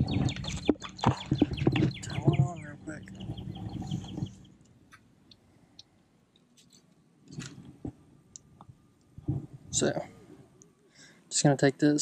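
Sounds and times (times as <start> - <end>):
birds chirping: 0.0 - 11.4.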